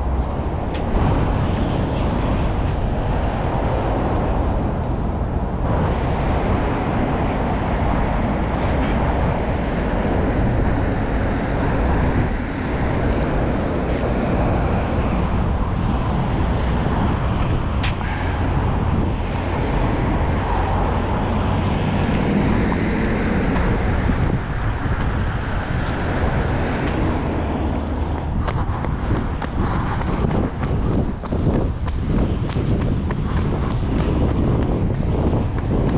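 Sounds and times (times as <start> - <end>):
road traffic noise: 0.0 - 35.9
wind buffeting microphone: 0.0 - 35.9.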